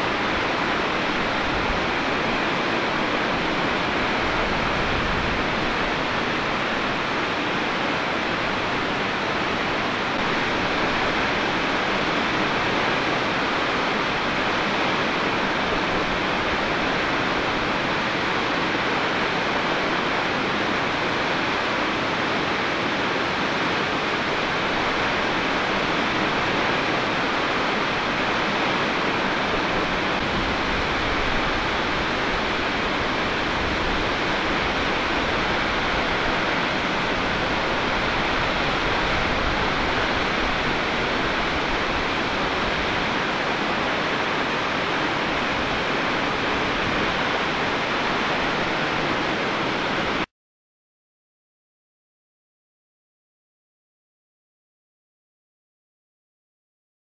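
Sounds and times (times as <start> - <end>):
waterfall rushing: 0.0 - 50.3.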